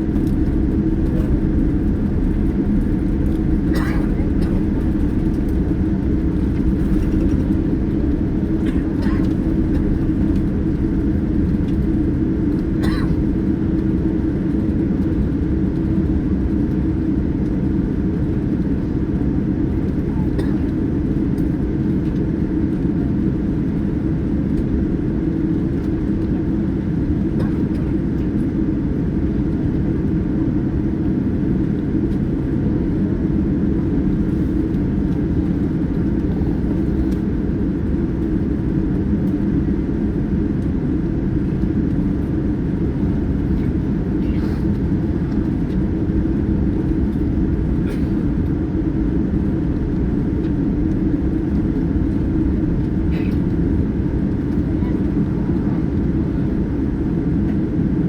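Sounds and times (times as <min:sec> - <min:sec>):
airliner cabin engine roar: 0:00.0 - 0:58.0.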